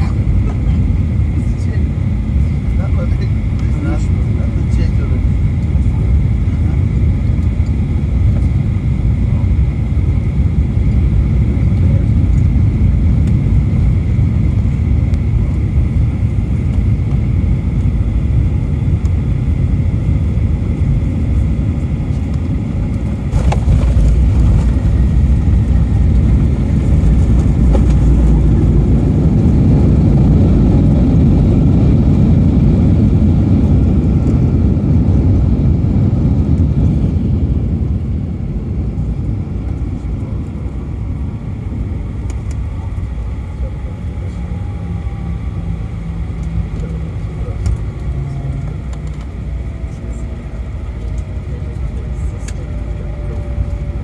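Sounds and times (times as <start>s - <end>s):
jet engine roar in cabin: 0.0s - 54.0s.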